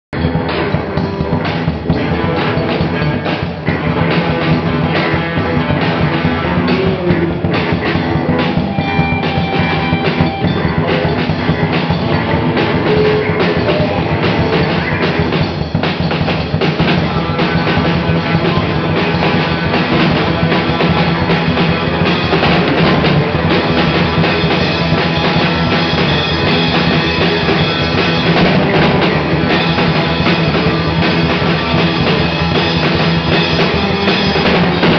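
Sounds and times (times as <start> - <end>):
electric bass: 0.0 - 34.9
drum kit: 0.1 - 34.9
electric guitar: 0.2 - 34.9.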